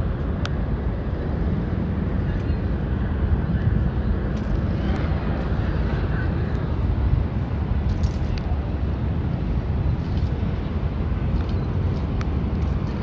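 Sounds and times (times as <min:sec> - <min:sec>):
city traffic rumble: 0:00.0 - 0:13.0
wind buffeting microphone: 0:00.0 - 0:13.0.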